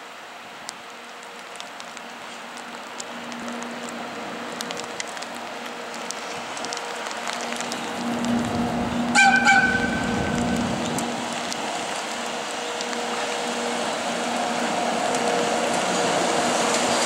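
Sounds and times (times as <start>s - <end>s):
freight train passing: 0.1s - 17.0s.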